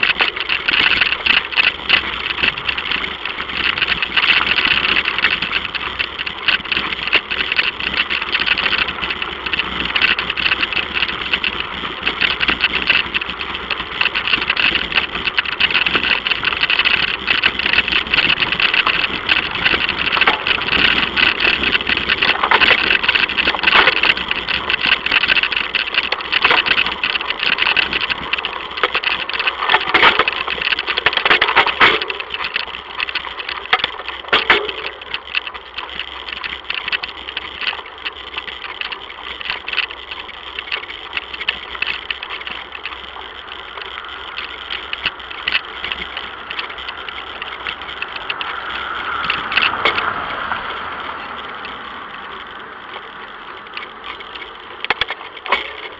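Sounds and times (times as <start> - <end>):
bicycle rattling over rough road: 0.0 - 55.9
car approaching: 0.0 - 55.9
tyre noise on pavement: 0.0 - 55.9.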